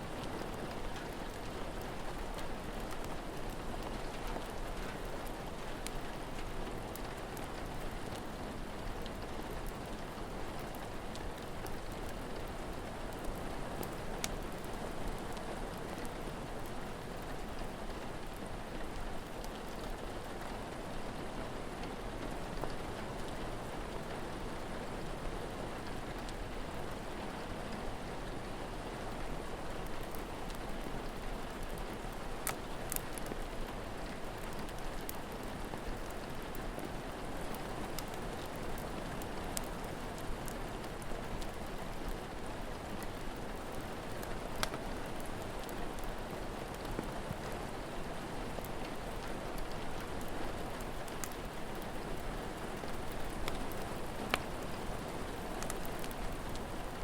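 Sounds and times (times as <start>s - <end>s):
crackling wood fire: 0.0s - 57.0s
steady rain falling: 0.0s - 57.0s.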